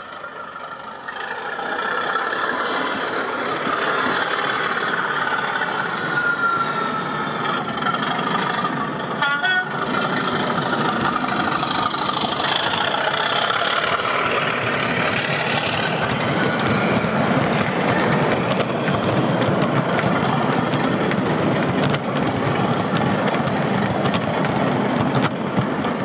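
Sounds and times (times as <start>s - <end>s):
model locomotive diesel engine: 0.0s - 26.0s.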